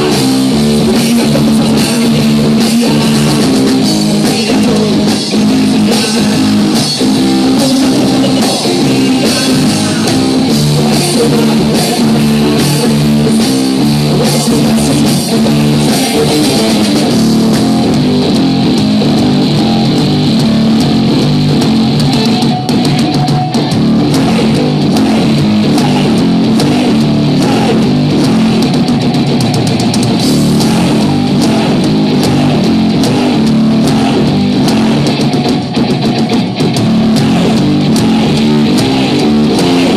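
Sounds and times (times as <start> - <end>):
live rock music: 0.0 - 39.9.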